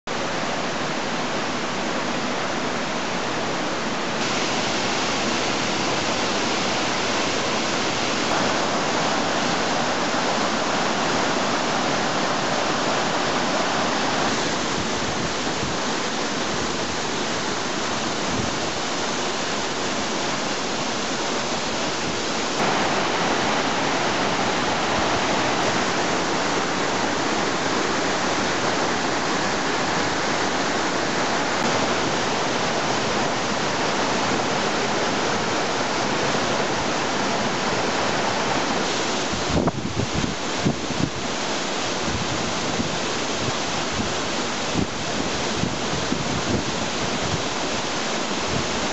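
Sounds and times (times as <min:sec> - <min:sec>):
waterfall rushing onto rocks: 0:00.1 - 0:48.9.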